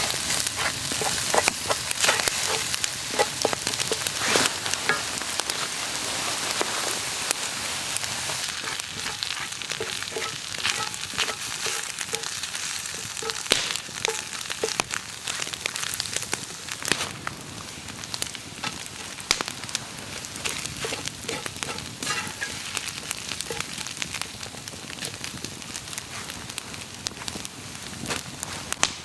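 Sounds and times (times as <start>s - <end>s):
sharp pops and crackles: 0.0s - 5.7s, 6.5s - 29.0s
food sizzling in a pan: 0.0s - 29.0s.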